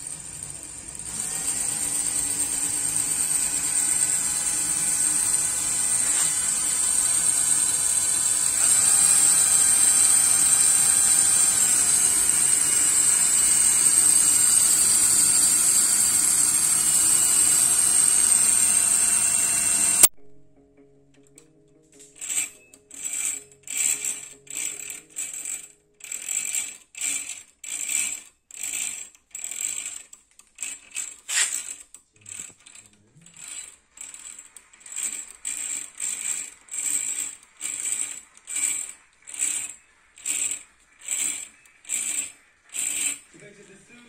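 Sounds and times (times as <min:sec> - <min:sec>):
model gearing whirring and clicking: 0:00.0 - 0:20.1, 0:22.2 - 0:44.0.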